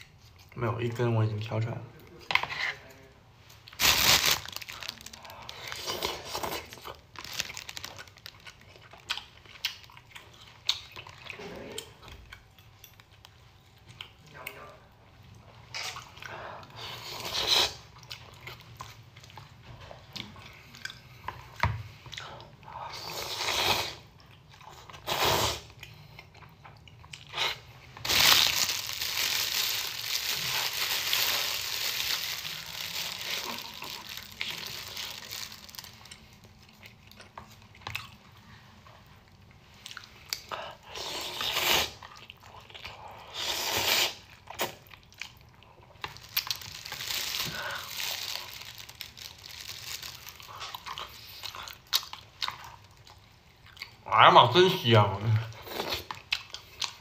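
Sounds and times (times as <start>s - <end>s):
chewing close to microphone: 3.6s - 54.0s, 55.5s - 57.0s.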